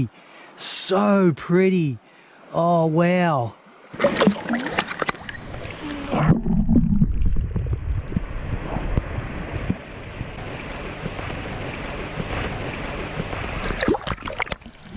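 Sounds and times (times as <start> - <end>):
muffled underwater water noise: 0.0 - 14.9.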